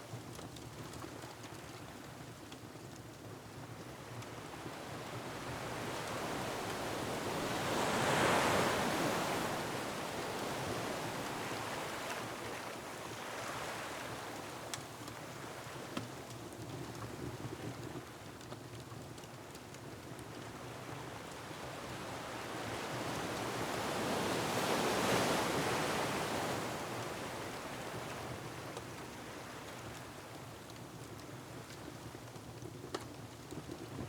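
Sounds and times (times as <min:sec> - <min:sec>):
faint wood fire crackles: 0:00.0 - 0:34.0
wind: 0:00.0 - 0:34.0.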